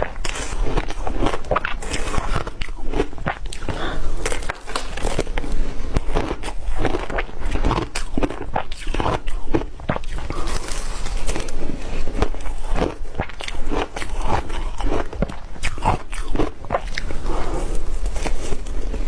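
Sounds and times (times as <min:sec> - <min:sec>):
ice being crunched and chewed: 0:00.0 - 0:19.0.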